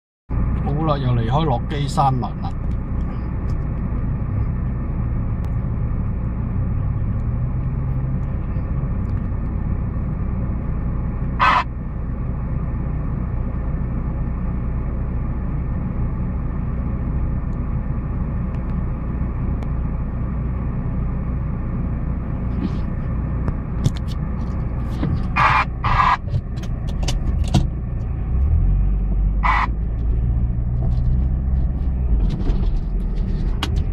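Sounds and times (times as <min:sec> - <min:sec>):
vehicle engine low rumble: 0:00.3 - 0:33.9.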